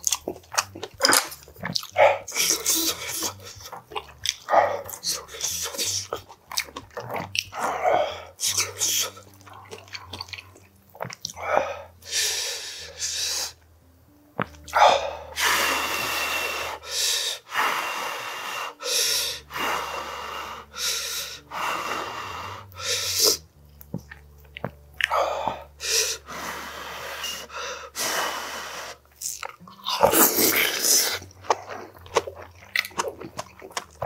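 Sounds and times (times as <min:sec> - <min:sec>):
man chewing food: 0:00.0 - 0:13.7, 0:14.3 - 0:28.0, 0:28.7 - 0:34.0.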